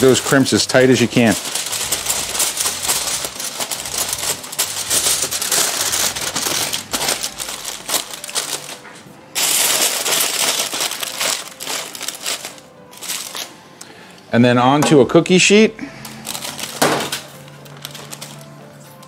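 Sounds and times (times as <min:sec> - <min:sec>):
foil crinkling: 0:00.0 - 0:13.5, 0:16.0 - 0:19.0.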